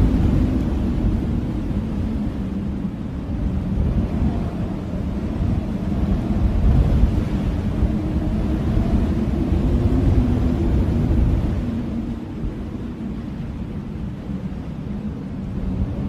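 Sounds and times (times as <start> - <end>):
blizzard wind blowing hard: 0.0 - 16.0
faint wavering wind howl: 0.0 - 16.0.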